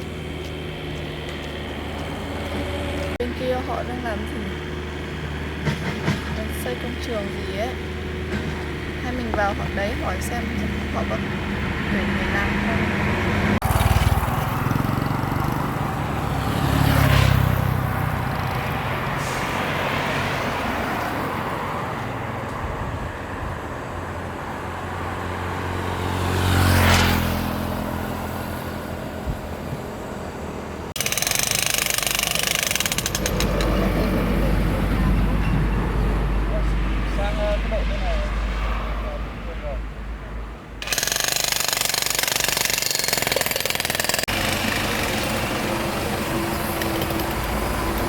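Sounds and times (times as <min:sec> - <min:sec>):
construction machine noise: 0:00.0 - 0:48.0
motor vehicles passing: 0:00.0 - 0:48.0
road noise: 0:00.0 - 0:48.0.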